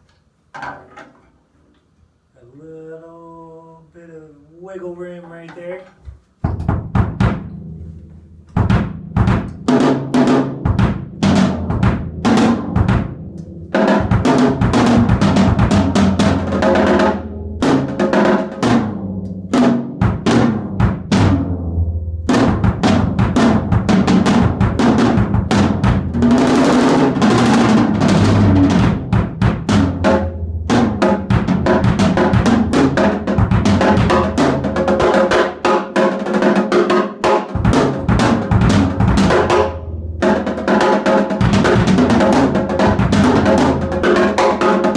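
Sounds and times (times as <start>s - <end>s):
drum kit playing: 6.4s - 44.9s.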